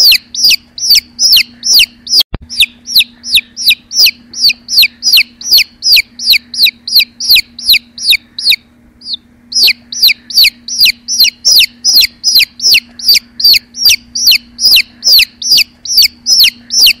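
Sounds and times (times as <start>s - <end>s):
bird chicks peeping: 0.0s - 17.0s.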